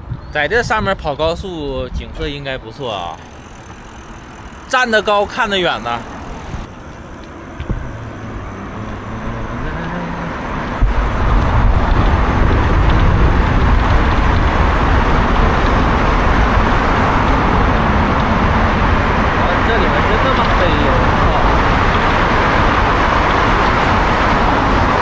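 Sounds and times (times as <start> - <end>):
highway traffic noise: 0.0 - 25.0
heavy low rumble: 1.6 - 25.0.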